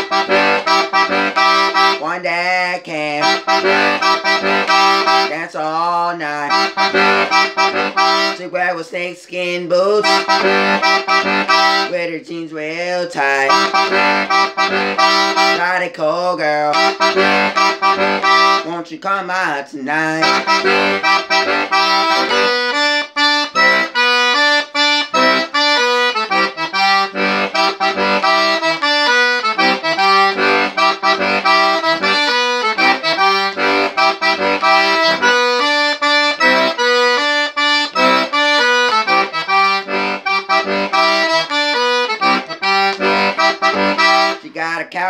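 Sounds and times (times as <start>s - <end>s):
button accordion playing: 0.0s - 44.8s.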